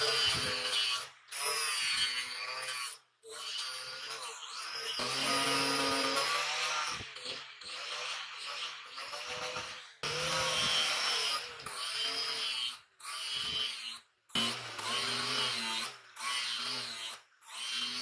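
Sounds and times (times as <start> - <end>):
angle grinder grinding steel: 0.0 - 18.0.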